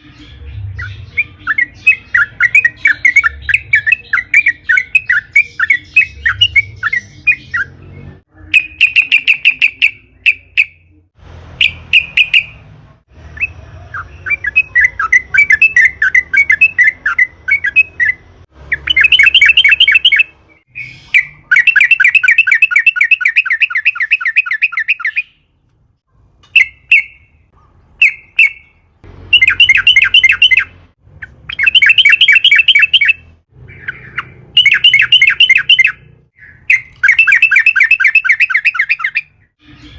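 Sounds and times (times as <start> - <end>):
bulbul singing: 0.0 - 25.6, 26.4 - 39.9.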